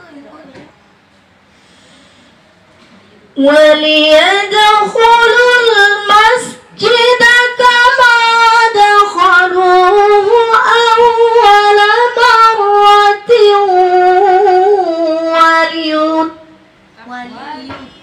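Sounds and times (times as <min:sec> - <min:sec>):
woman reciting melodically: 0:03.3 - 0:18.0.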